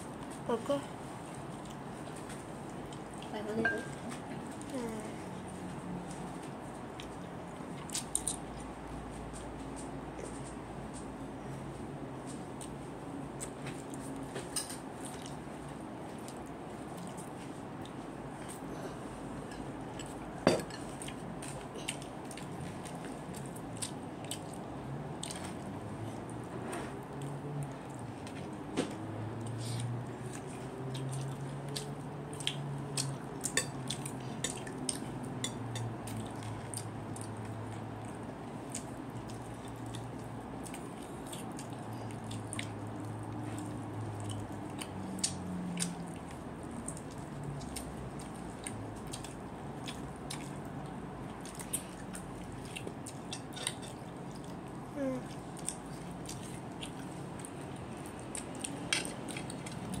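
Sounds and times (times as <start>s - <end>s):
low background hum: 0.0s - 60.0s
chewing: 1.0s - 11.1s, 11.7s - 60.0s.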